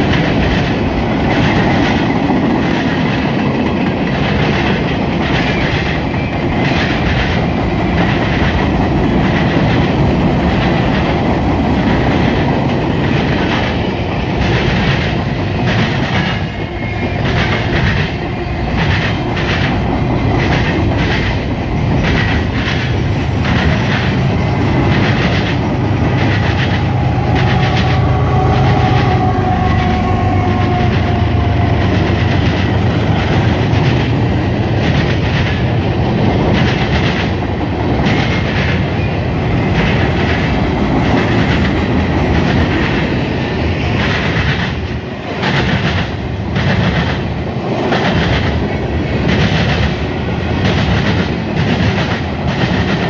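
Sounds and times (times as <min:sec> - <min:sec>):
rhythmic clickety-clack: 0:00.0 - 0:53.0
train wheels rumbling on rail: 0:00.0 - 0:53.0.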